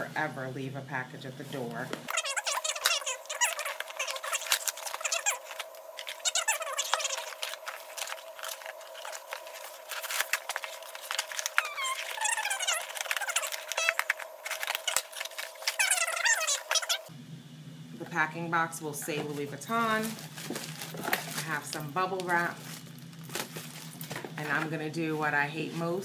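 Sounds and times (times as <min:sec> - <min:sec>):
cardboard box crackling and rustling: 0:02.1 - 0:17.0, 0:19.6 - 0:26.0.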